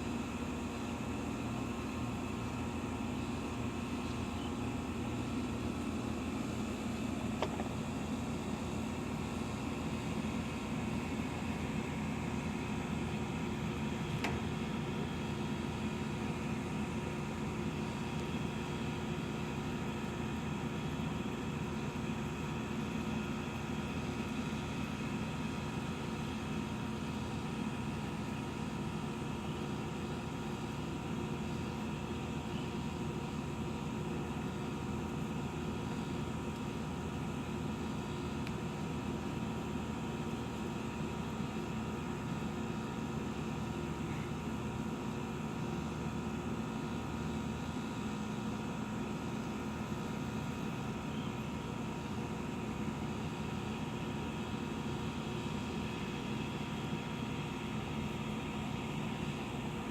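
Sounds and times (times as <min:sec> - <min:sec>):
mechanical hum with tones: 0:00.0 - 0:59.9.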